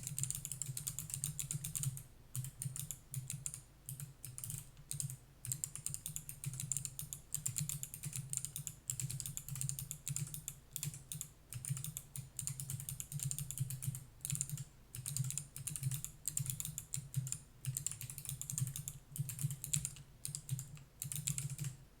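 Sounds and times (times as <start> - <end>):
mechanical keyboard typing: 0.0 - 21.8.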